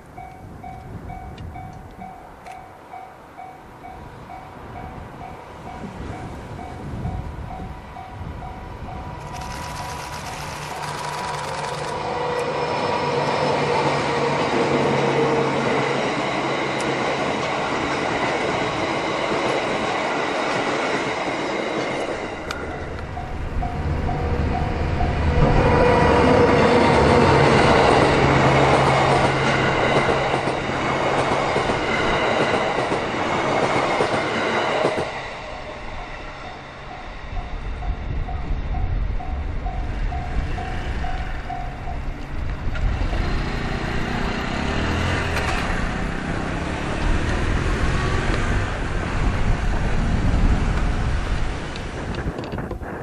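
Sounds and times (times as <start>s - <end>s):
train wheels clattering on rails: 8.4s - 53.0s.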